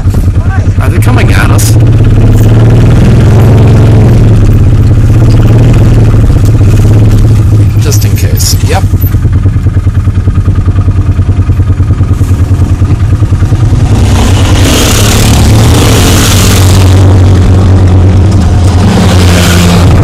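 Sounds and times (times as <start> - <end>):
quad bikes driving past: 0.0 - 9.1, 12.2 - 20.0
atv engine idling: 0.0 - 18.8.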